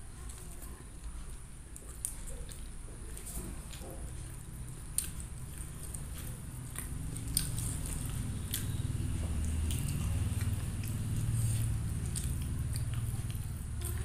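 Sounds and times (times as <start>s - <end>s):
close chewing: 0.0s - 14.0s
wet mouth clicks and smacks: 1.8s - 13.6s.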